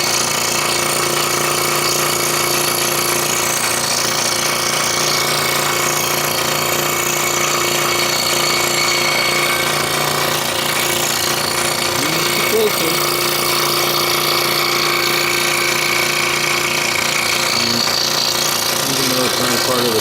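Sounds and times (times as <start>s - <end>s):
scroll saw cutting wood: 0.0s - 20.0s.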